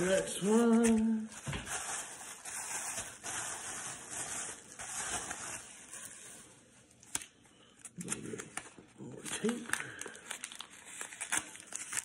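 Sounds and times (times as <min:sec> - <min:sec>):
paper packaging rustling: 0:00.0 - 0:12.0.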